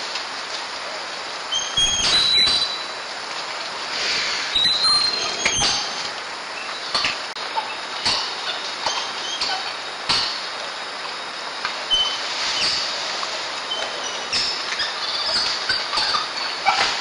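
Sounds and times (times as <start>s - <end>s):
rainforest hiss: 0.0s - 17.0s
sloth rustling in wet leaves: 0.0s - 17.0s.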